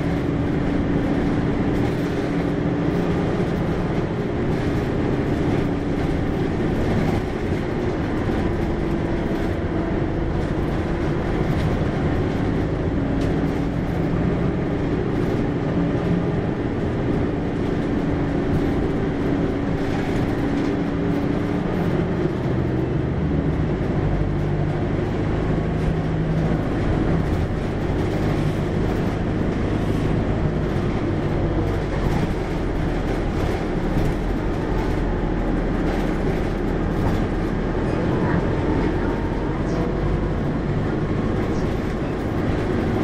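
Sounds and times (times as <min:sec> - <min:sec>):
bus diesel engine droning: 0:00.0 - 0:43.0.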